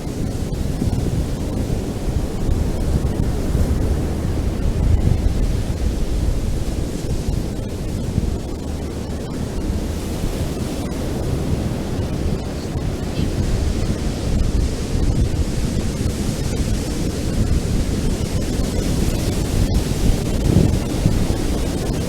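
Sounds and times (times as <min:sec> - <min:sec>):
waves breaking on beach: 0:00.0 - 0:22.0
wind rumbling on microphone: 0:00.0 - 0:22.0.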